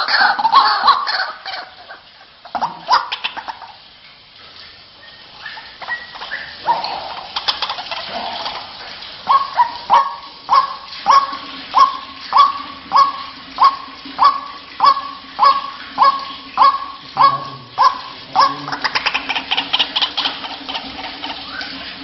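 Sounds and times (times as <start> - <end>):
waterhen calling: 0.0 - 22.0.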